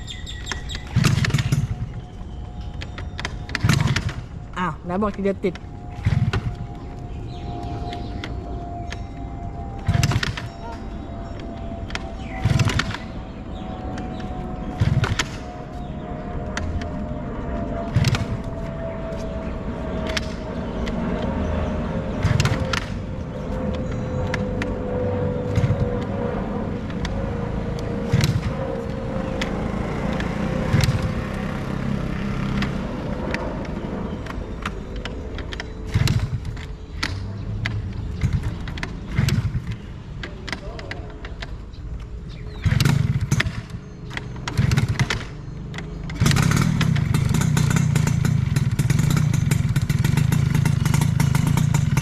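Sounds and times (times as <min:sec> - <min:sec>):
two-stroke engine idling and revving: 0:00.0 - 0:09.0, 0:09.6 - 0:17.2, 0:17.8 - 0:41.6, 0:42.3 - 0:52.0.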